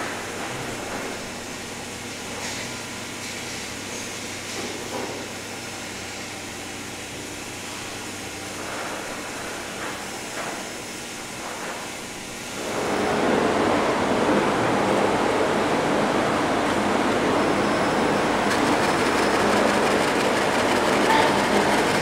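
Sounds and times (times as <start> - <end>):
machinery hiss and hum: 0.0 - 22.0.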